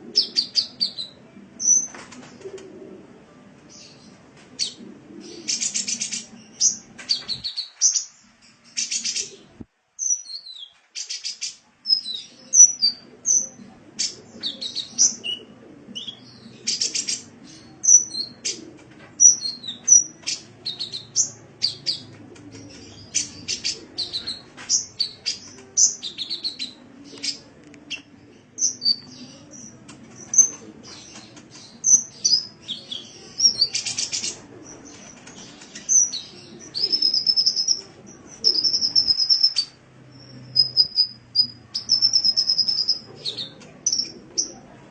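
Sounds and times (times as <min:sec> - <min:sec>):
bird chirping and trilling: 0:00.2 - 0:02.0, 0:03.8 - 0:18.6, 0:19.2 - 0:44.6.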